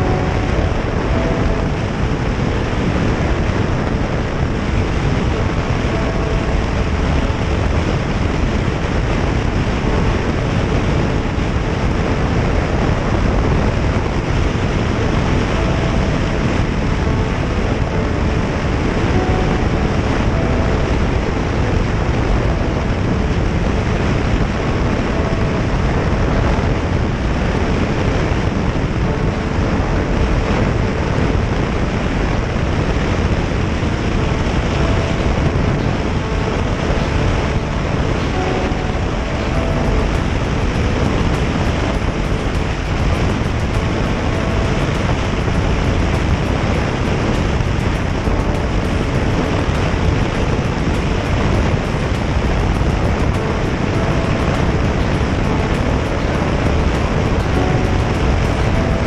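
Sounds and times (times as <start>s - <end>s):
road noise: 0.0s - 59.0s
wind rush on microphone: 0.0s - 59.0s.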